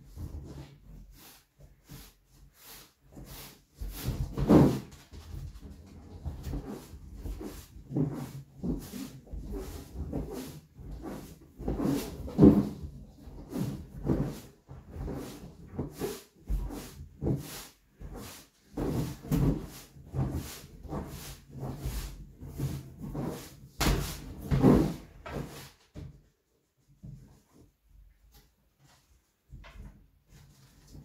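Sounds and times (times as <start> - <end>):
exercise balls rubbing and creaking: 0.0 - 26.1.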